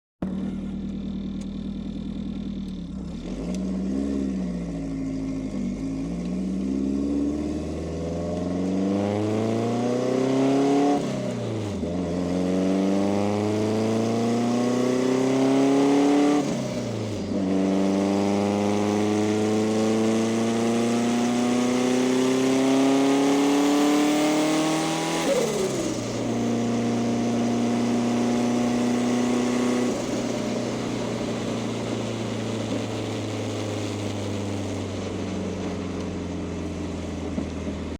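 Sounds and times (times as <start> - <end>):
car engine accelerating: 0.2 - 37.9.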